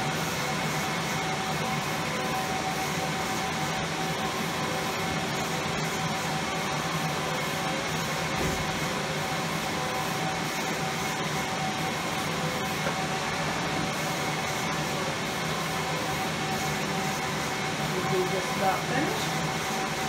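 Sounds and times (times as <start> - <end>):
printer fans whirring: 0.0 - 20.0.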